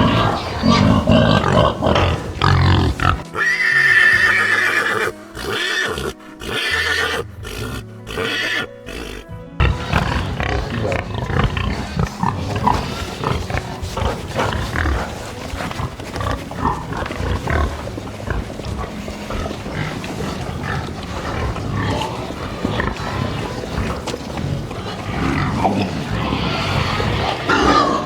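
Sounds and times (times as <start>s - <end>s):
animal calls: 0.0s - 28.0s
music: 0.0s - 28.0s.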